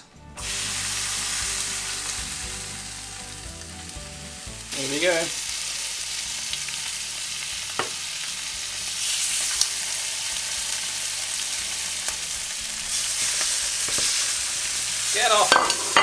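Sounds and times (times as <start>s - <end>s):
patties sizzling in fat: 0.0s - 16.0s.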